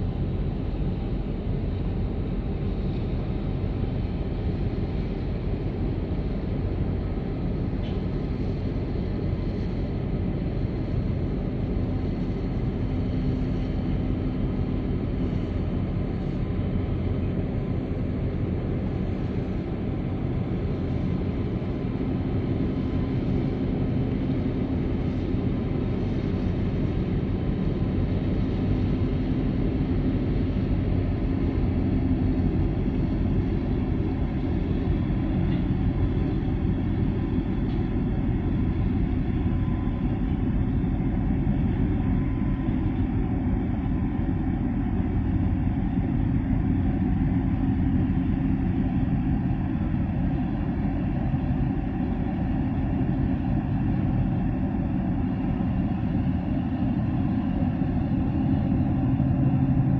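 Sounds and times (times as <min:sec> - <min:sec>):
ship engine low rumble: 0:00.0 - 0:59.9.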